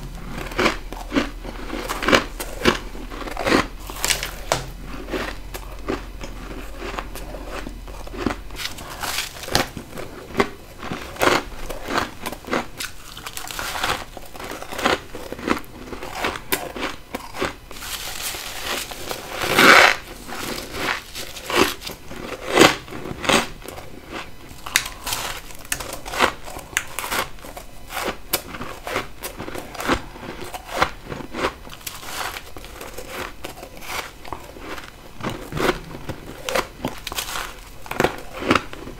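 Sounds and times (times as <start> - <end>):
crunching ice being chewed: 0.0 - 38.9.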